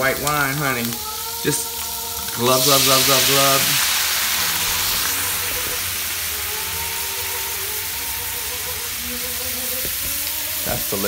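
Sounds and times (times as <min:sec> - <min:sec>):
green beans sizzling in a pan: 0:00.0 - 0:11.0.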